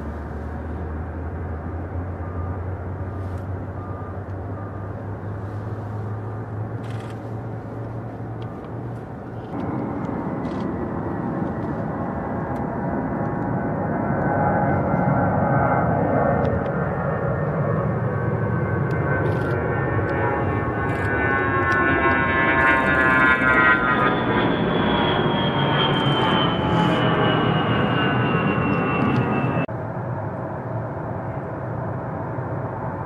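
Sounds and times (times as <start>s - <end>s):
jet engines droning: 0.0s - 33.0s
jet whine: 0.0s - 33.0s.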